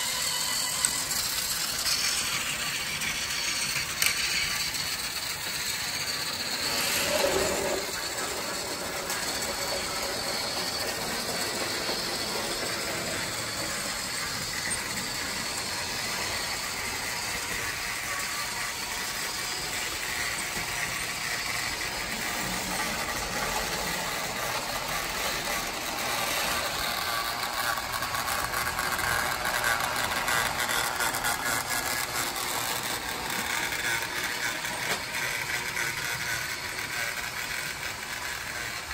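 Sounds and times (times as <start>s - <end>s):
toy train motor and gears: 0.0s - 38.9s.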